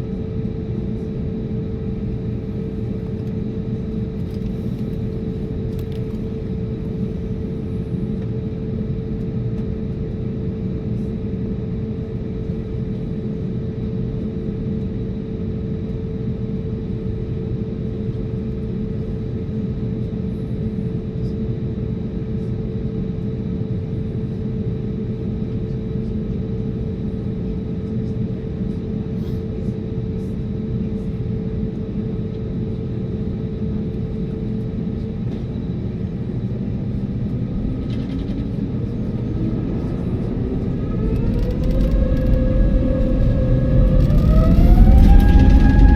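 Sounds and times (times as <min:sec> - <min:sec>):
aircraft cabin engine rumble: 0:00.0 - 0:45.9.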